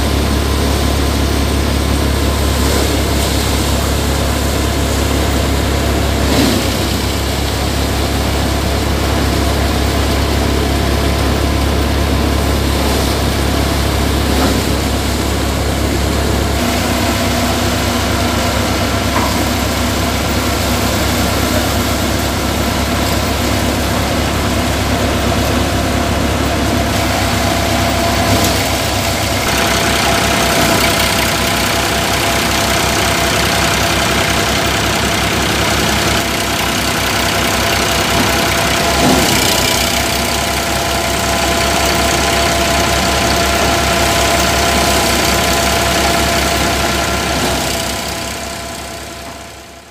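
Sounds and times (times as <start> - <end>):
threshing drum whirring: 0.0 - 49.8
tractor diesel engine: 0.0 - 49.9.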